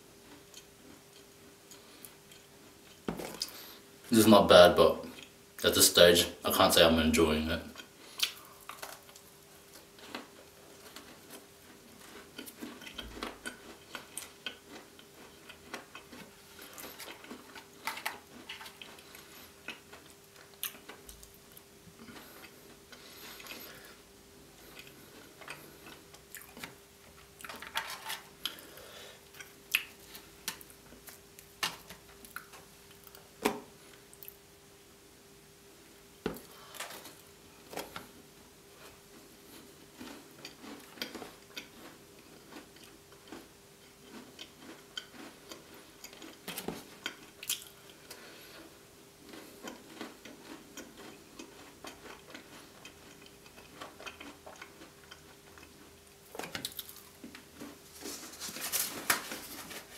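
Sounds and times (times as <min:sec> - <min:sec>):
crunchy chewing: 0:07.7 - 0:24.0, 0:24.6 - 0:33.3, 0:36.4 - 0:59.9.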